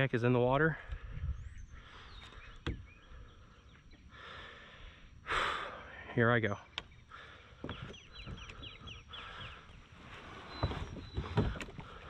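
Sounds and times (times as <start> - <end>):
bird chirping: 0.9 - 4.8, 5.8 - 12.0.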